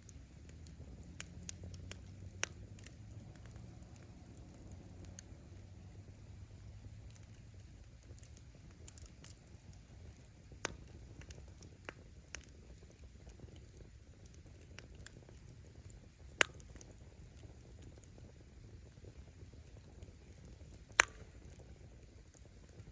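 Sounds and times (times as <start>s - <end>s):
campfire flame rumbling: 0.0s - 22.9s
wood crackling and popping: 0.0s - 22.9s.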